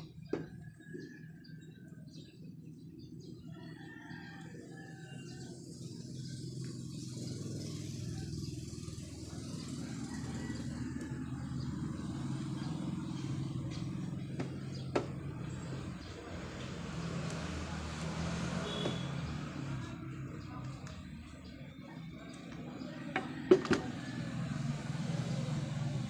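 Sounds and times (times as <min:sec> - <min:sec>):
birds chirping: 0:00.0 - 0:26.0
low engine hum: 0:00.0 - 0:26.0.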